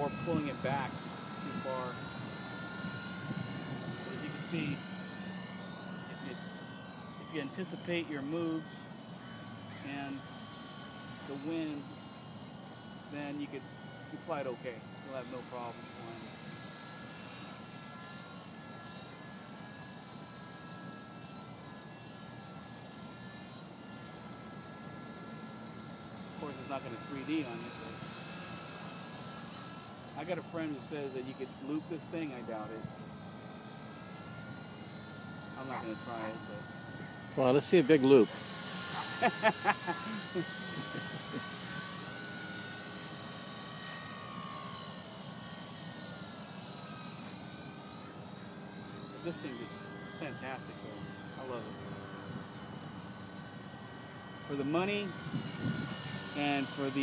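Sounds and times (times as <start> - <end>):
remote-control helicopter whine: 0.0 - 57.0.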